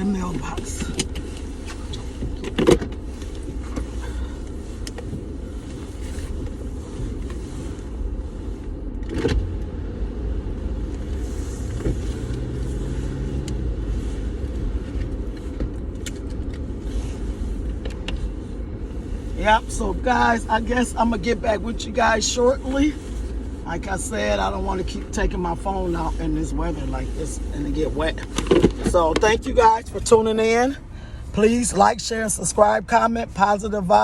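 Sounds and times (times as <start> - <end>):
car cabin low rumble: 0.0 - 34.0.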